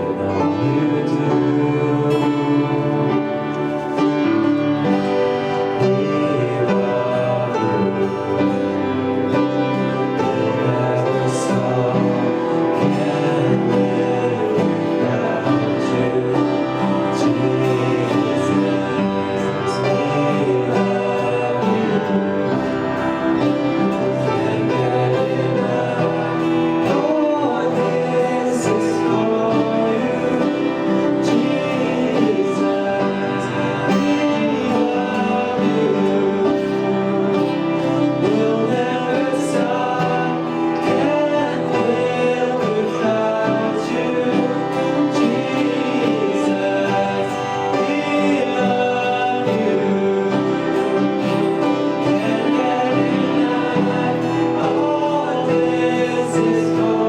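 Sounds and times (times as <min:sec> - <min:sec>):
people singing: 0:00.0 - 0:57.0
worship band playing: 0:00.0 - 0:57.0.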